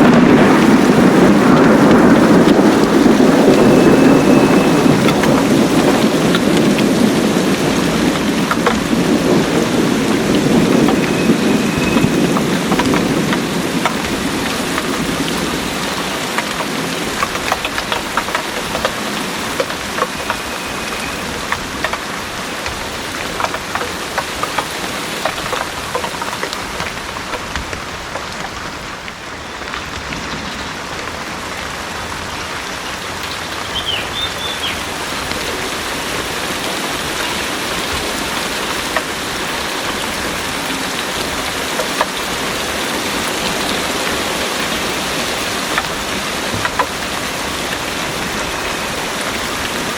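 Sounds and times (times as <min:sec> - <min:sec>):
heavy rain: 0:00.0 - 0:49.9
raindrops clicking close by: 0:00.0 - 0:49.9
thunder rumbling: 0:00.0 - 0:49.9.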